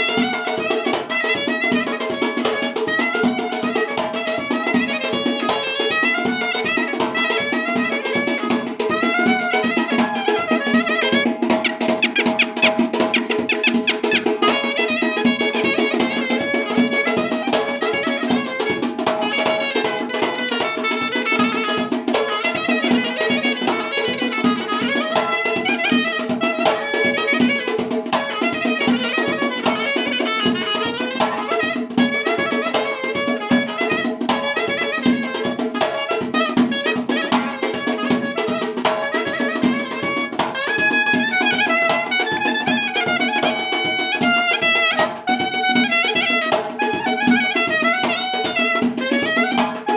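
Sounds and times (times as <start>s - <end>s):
clarinet playing ornamented melody: 0.0s - 49.9s
drum beats: 0.0s - 49.9s.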